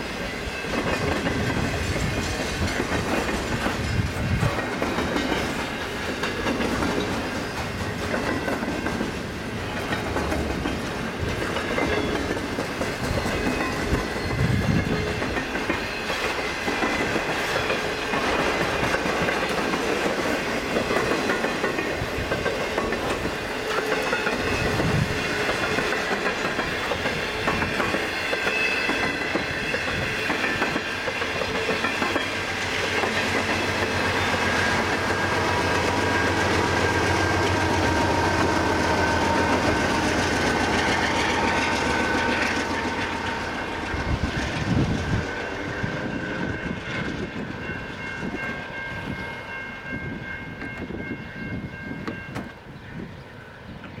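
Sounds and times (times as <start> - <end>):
train wheels clickety-clack: 0.0 - 52.6
diesel locomotive engine drone: 0.0 - 54.0.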